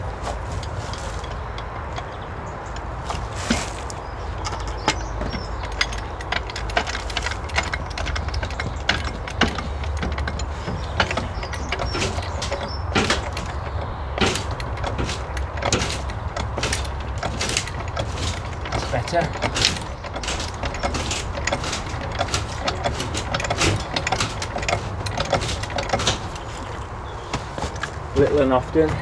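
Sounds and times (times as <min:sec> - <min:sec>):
greenhouse frame knocks and rattles: 0:00.0 - 0:29.0.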